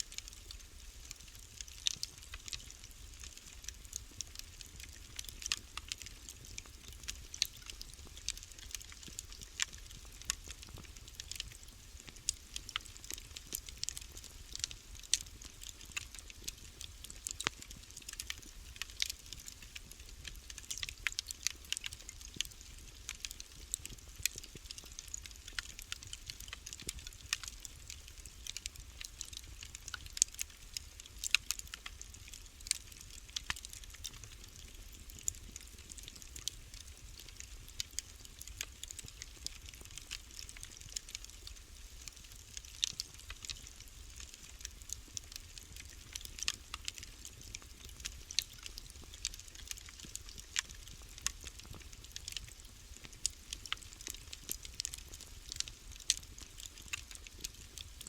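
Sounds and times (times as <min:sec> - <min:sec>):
wood fire crackling and popping: 0:00.1 - 0:58.0.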